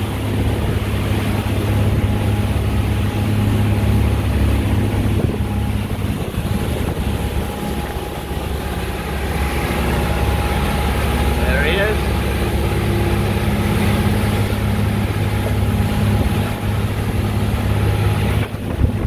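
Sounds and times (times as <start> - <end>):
boat engines droning: 0.0 - 19.0
wind and water rushing: 0.0 - 19.0.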